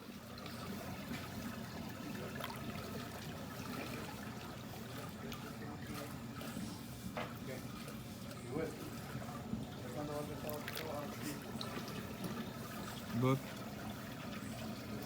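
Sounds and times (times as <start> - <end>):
faint water splashes: 0.0 - 15.0
water sloshing and trickling: 0.0 - 15.0.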